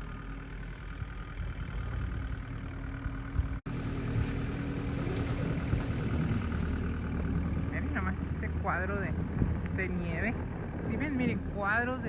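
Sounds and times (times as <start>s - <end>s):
snow-clearing machine engine running: 0.0s - 12.0s.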